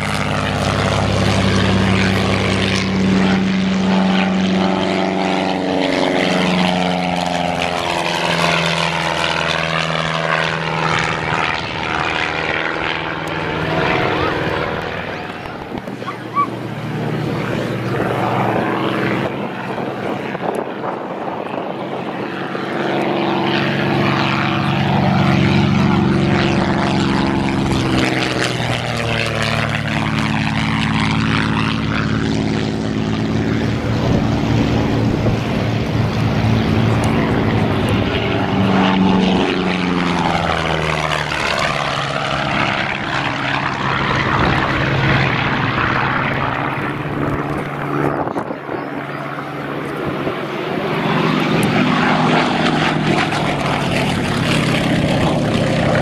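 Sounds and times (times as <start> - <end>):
propeller airplane engine droning: 0.0 - 56.0.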